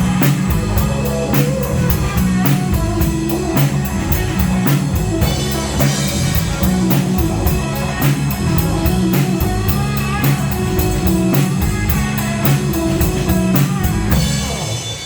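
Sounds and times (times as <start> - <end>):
bass guitar: 0.0 - 15.0
drum kit beat: 0.0 - 15.0
electric guitar: 0.0 - 15.0.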